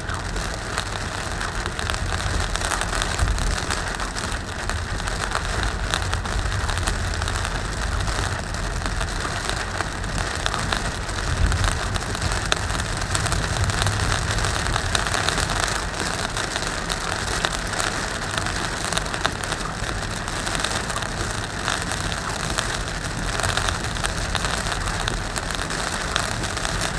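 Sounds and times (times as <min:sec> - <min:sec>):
car and tyres rumbling on wet road: 0:00.0 - 0:26.9
rain on car roof: 0:00.0 - 0:26.9.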